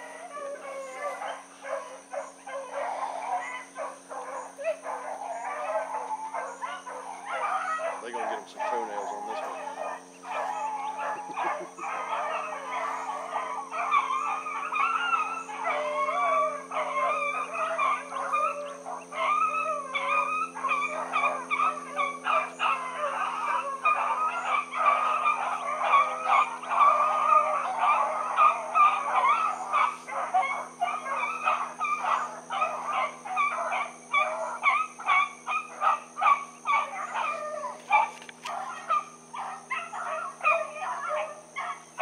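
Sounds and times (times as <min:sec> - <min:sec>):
hounds baying: 0:00.0 - 0:42.0.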